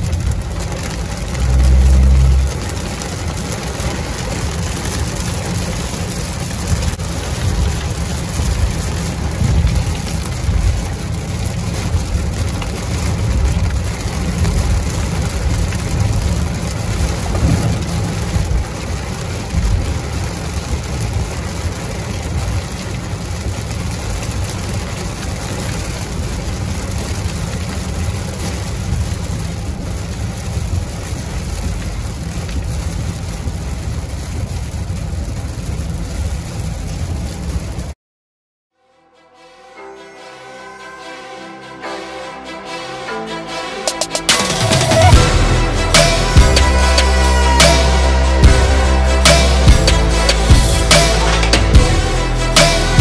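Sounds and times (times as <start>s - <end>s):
heavy rain on car windshield: 0.0s - 38.0s, 44.1s - 53.0s
road and engine rumble: 0.0s - 38.0s, 43.4s - 53.0s.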